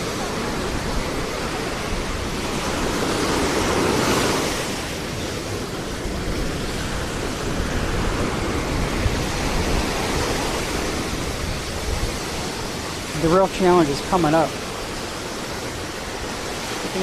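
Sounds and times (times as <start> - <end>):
ocean waves breaking on beach: 0.0 - 17.0
wind buffeting microphone: 0.0 - 17.0.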